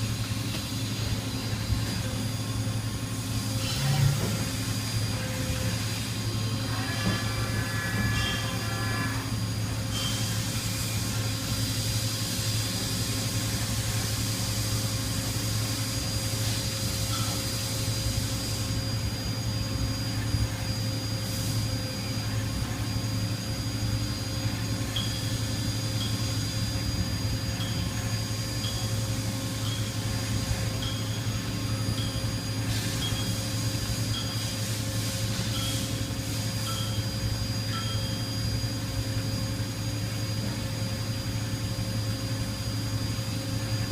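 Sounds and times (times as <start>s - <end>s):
milling machine hum and whine: 0.0s - 43.9s.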